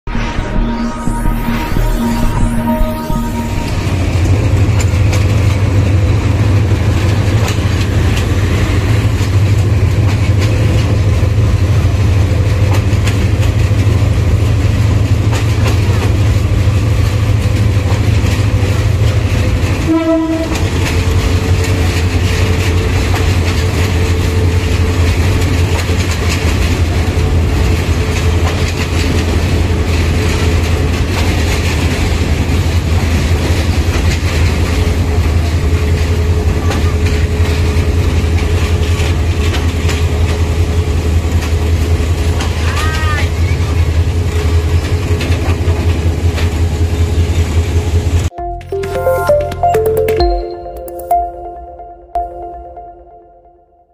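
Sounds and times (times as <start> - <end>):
train wheels rumbling on rails: 4.8 - 48.1.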